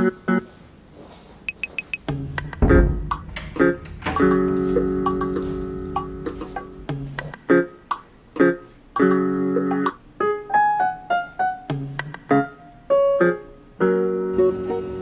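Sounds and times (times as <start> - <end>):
piano music: 2.1 - 15.0.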